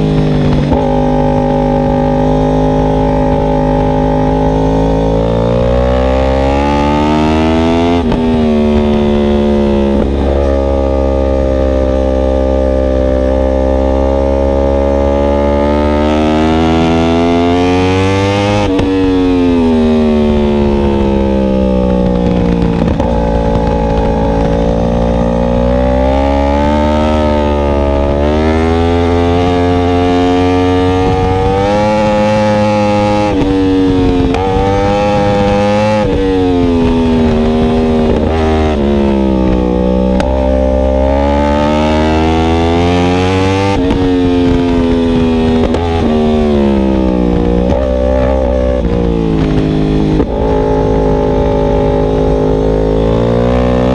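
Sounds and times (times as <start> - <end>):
low wind rush: 0.0 - 53.9
motorcycle engine revving: 0.0 - 53.9.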